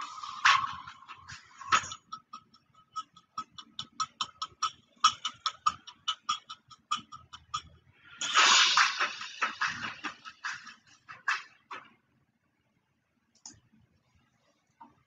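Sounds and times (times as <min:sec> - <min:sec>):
rhythmic ticking: 0:00.0 - 0:12.1.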